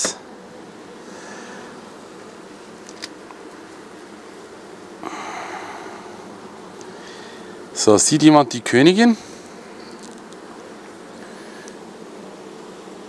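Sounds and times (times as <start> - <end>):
bees buzzing: 0.0 - 13.0
hive frame rustling: 0.0 - 13.0.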